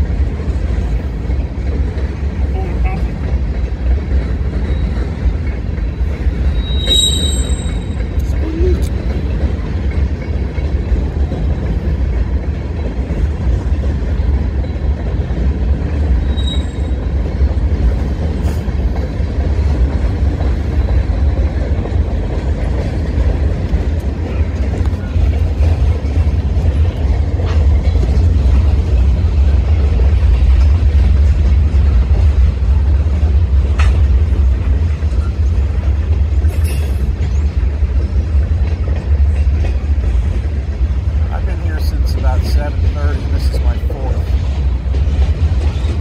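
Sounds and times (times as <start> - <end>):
freight train rolling past: 0.0 - 46.0
train wheels clicking: 0.0 - 46.0.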